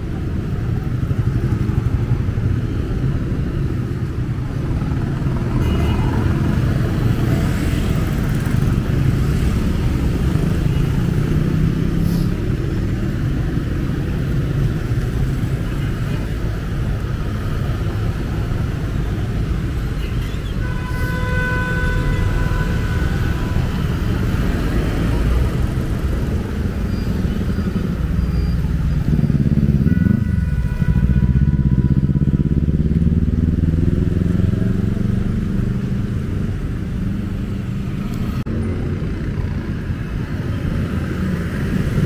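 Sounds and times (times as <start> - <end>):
traffic engine and tyre rumble: 0.0 - 42.0.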